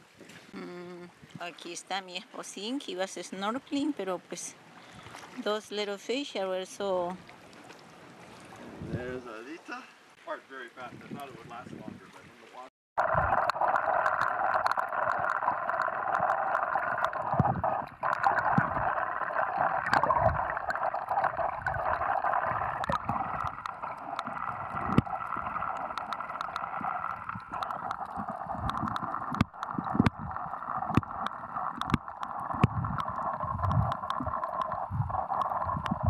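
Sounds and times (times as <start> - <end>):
water gurgling and sloshing: 0.0 - 36.0.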